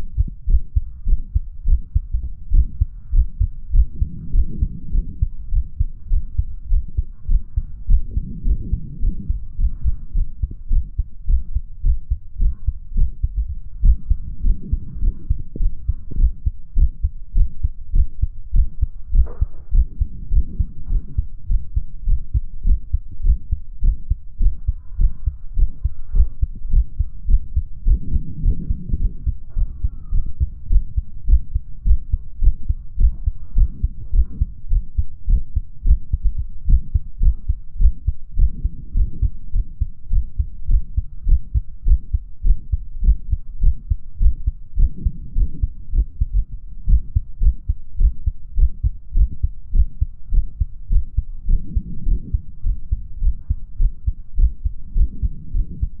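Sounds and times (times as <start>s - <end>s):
faint heart murmur: 0.0s - 56.0s
heartbeat thumps: 0.0s - 56.0s.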